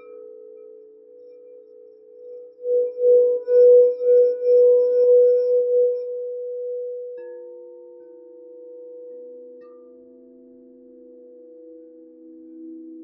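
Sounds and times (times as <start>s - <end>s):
lower bowl tone: 0.0s - 13.0s
pulsing bowl tone: 0.0s - 13.0s.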